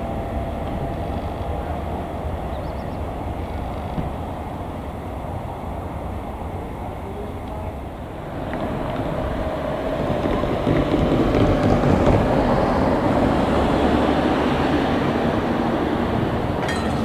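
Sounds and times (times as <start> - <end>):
diesel locomotive running: 0.0 - 17.0
rail noise: 0.0 - 17.0.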